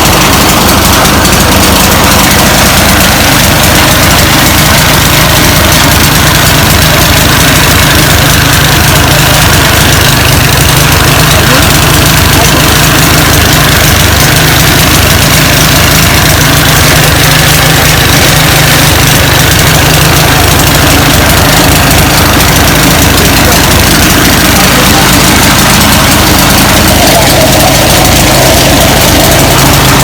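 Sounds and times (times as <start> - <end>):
chaff cutter mechanical drone: 0.0 - 30.0.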